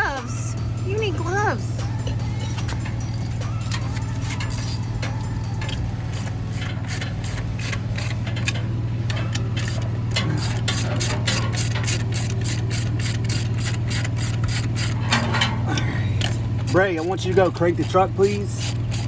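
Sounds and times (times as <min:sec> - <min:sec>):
steady low hum: 0:00.0 - 0:19.0
hand ratchet clicking: 0:02.1 - 0:15.5, 0:16.2 - 0:19.0.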